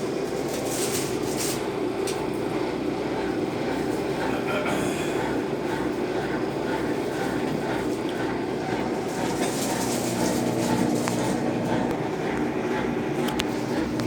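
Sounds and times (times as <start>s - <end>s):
washing machine churning: 0.0s - 14.0s
washing machine motor hum: 0.0s - 14.0s.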